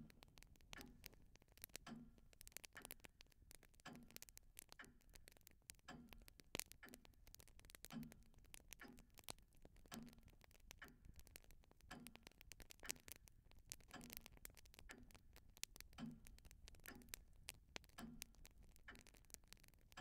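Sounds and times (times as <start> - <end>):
faint clock ticking: 0.0 - 20.0.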